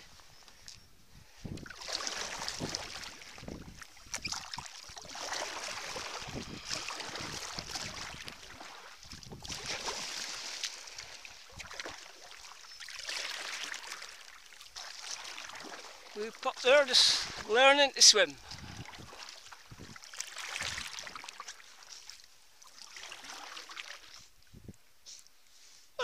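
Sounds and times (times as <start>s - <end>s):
paddle swishing and splashing: 1.4s - 26.0s.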